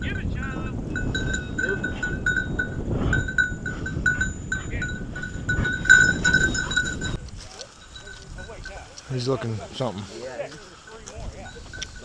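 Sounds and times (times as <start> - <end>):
small collar bell ringing: 0.0 - 9.0, 10.9 - 12.0.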